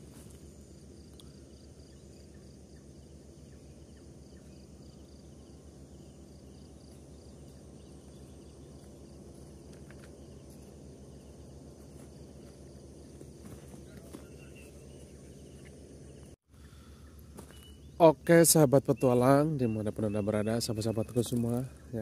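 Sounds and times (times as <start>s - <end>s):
low background rumble: 0.0s - 22.0s
night insects chirping: 0.0s - 22.0s.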